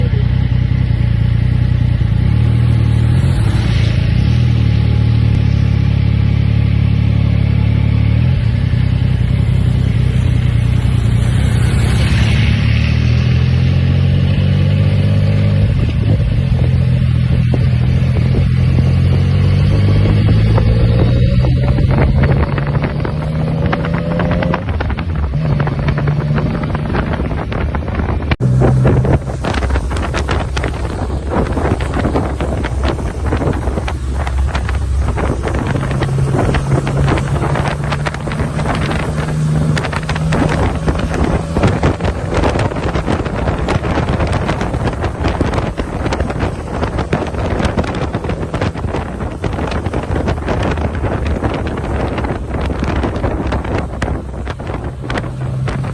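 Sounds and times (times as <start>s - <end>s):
vehicle engine hum: 0.0s - 55.9s
wind buffeting microphone: 8.2s - 55.9s.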